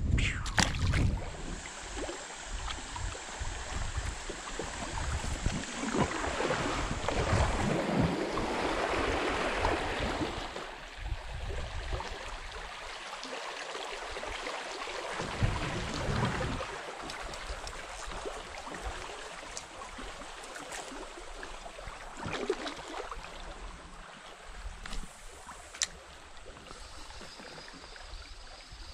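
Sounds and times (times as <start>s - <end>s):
creek water rushing and splashing: 0.6s - 28.6s.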